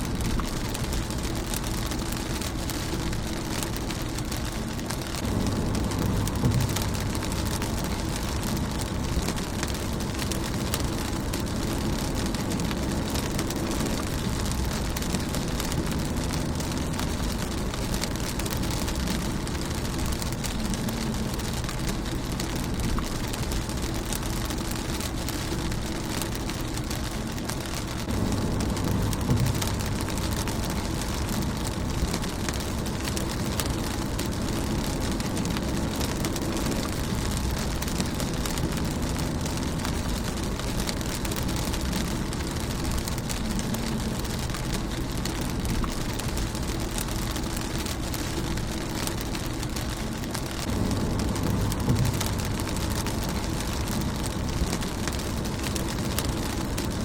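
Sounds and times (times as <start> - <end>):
rain on a car windshield: 0.0 - 57.0.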